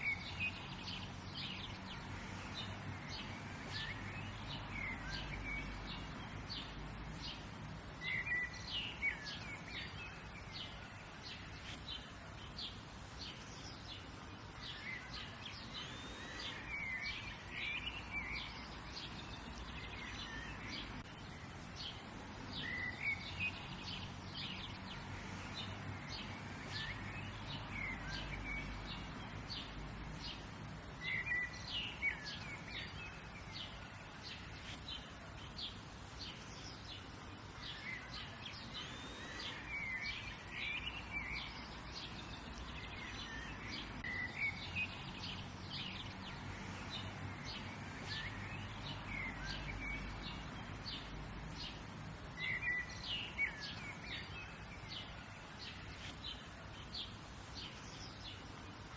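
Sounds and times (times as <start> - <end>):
birds chirping and singing: 0.0 - 58.9.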